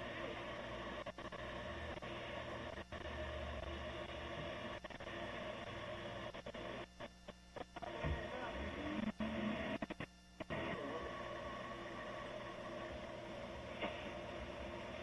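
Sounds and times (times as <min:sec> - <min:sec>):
static hiss: 0:00.0 - 0:15.0.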